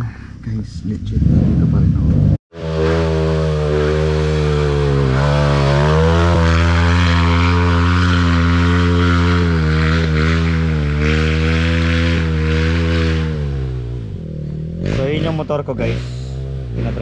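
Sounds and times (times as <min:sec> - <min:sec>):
dirt bike engine at high revs: 0:01.4 - 0:17.0.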